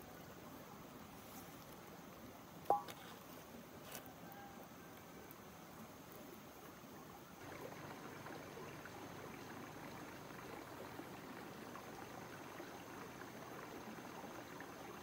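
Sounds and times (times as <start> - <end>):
stream trickling over rocks: 0.0 - 15.0.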